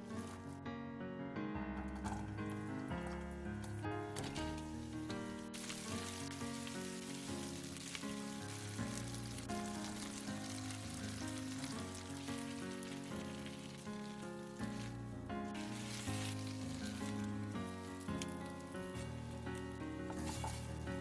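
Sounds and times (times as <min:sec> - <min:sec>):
background music: 0:00.0 - 0:21.0
food sizzling in frying pan: 0:04.2 - 0:21.0.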